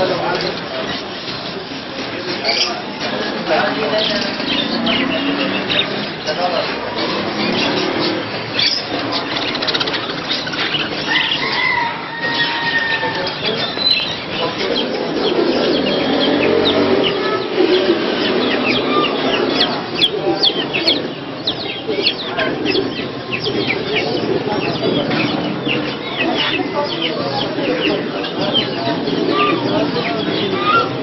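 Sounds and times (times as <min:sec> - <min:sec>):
caged birds chirping: 0:00.0 - 0:31.0.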